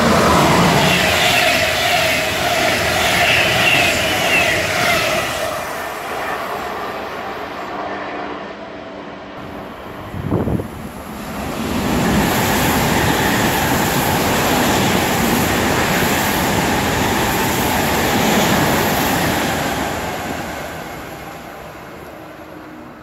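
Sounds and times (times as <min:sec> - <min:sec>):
high-speed train passing: 0:00.0 - 0:23.0
wheels rushing on rail: 0:00.0 - 0:23.0.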